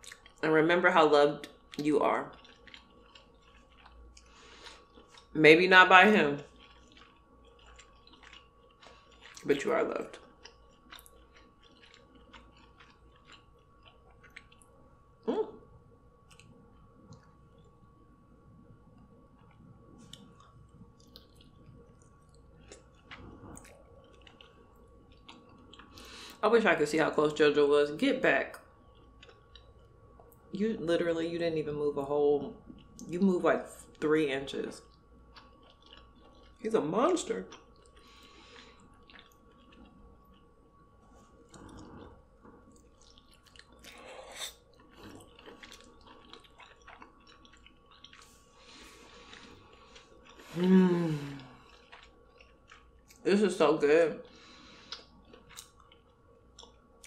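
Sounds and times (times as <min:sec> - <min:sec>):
wet chewing and mouth smacks: 0:00.0 - 0:00.4, 0:01.4 - 0:05.4, 0:06.3 - 0:14.9, 0:16.1 - 0:26.4, 0:28.6 - 0:30.5, 0:32.5 - 0:33.2, 0:34.8 - 0:53.3, 0:54.2 - 0:57.0.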